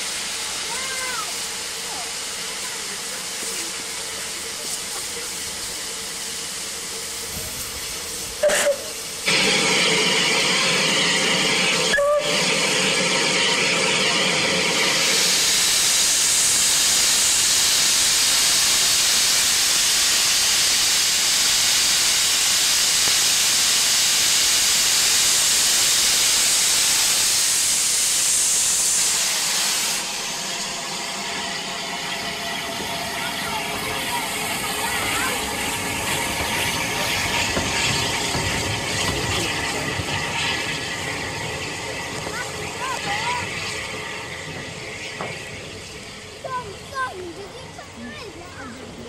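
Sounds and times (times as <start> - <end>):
steam hissing loudly: 0.0 - 49.0.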